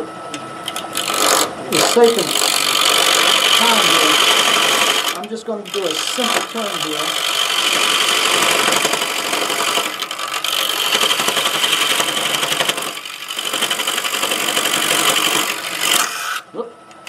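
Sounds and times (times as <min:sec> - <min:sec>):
wood lathe cutting with whine: 0:00.7 - 0:16.4.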